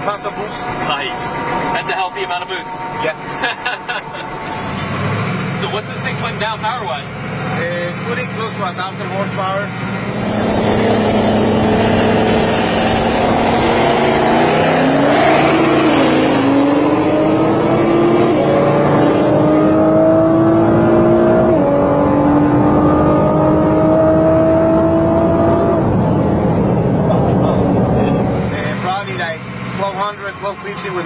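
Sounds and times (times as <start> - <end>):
engine accelerating and shifting gear: 0.0 - 31.0.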